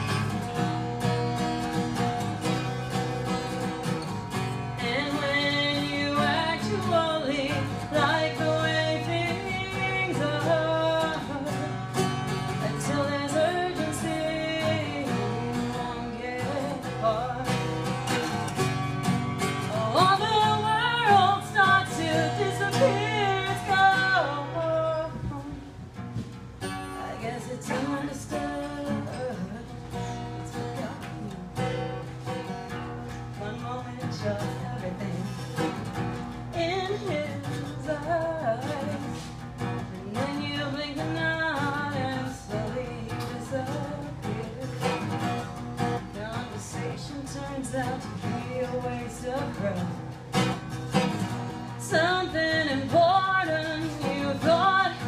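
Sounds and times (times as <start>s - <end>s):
acoustic guitar: 0.0s - 55.0s
woman singing: 0.0s - 55.0s.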